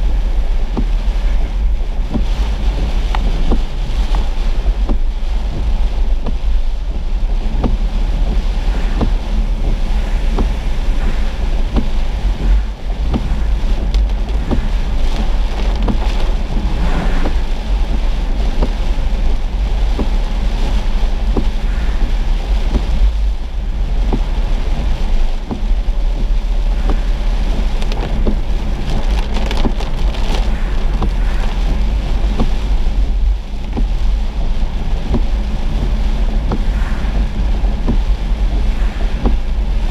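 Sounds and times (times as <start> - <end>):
rain striking windshield: 0.0 - 39.9
road and wind rumble: 0.0 - 39.9.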